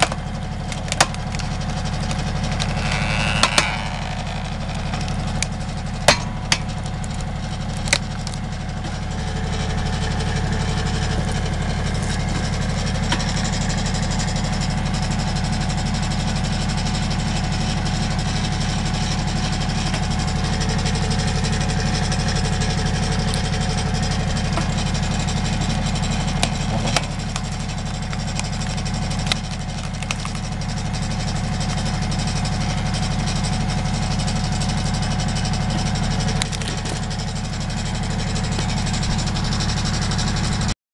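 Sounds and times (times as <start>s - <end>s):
log cracking under splitter: 0.0s - 14.6s, 19.2s - 33.5s, 34.3s - 39.0s
tractor engine running: 0.0s - 40.8s.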